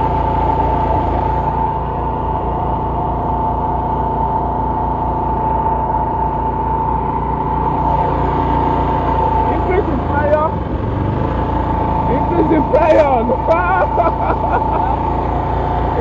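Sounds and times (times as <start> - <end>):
high whine: 0.0 - 16.0
small generator engine running: 0.0 - 16.0.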